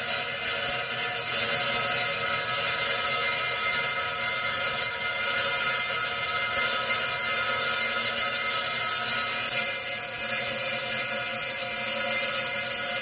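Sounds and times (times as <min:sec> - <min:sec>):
saw blade grinding stone: 0:00.0 - 0:13.0.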